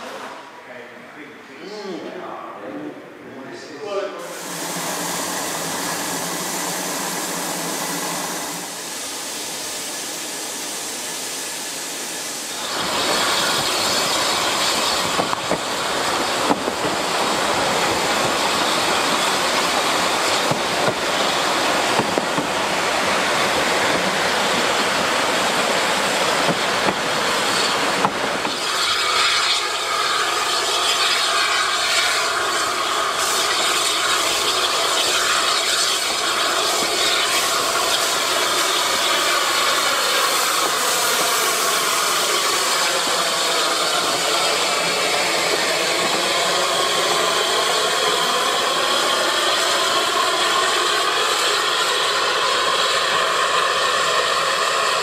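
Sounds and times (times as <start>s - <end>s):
train wheels rushing on rails: 0.0s - 0.6s, 4.2s - 55.0s.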